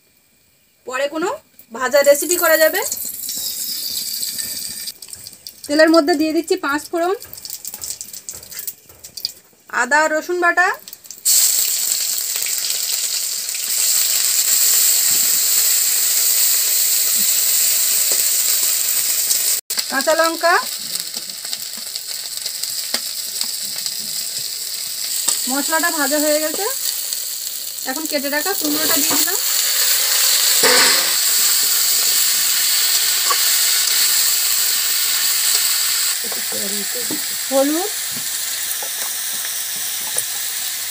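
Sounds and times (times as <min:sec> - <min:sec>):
paste sizzling in hot oil: 0:01.2 - 0:09.6, 0:10.2 - 0:40.9.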